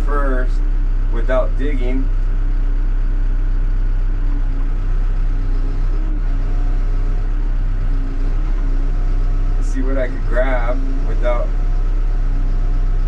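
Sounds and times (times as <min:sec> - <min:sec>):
diesel engine running: 0:00.0 - 0:13.0
faint steady tones: 0:00.0 - 0:13.0.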